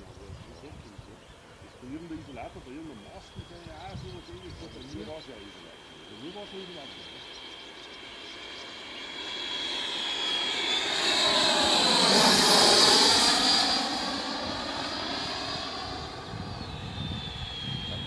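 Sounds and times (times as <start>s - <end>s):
model jet fan whine: 0.0s - 18.0s.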